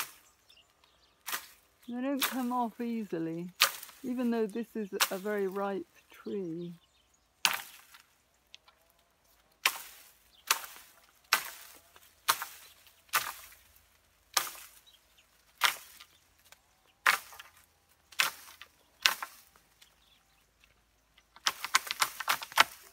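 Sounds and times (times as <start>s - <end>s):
wooden pole whacking tree branches: 0.0s - 0.4s, 1.2s - 5.6s, 7.4s - 22.9s
branches rattling: 0.0s - 22.9s.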